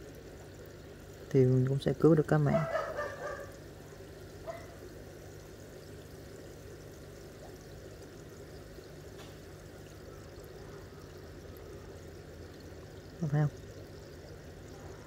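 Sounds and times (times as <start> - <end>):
low even hum: 0.0 - 15.0
water trickling: 0.0 - 15.0.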